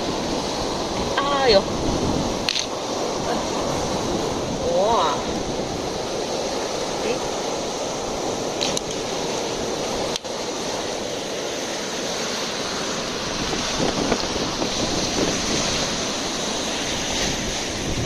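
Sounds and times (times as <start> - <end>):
surf washing in: 0.0 - 18.0
wind buffeting microphone: 0.0 - 18.0.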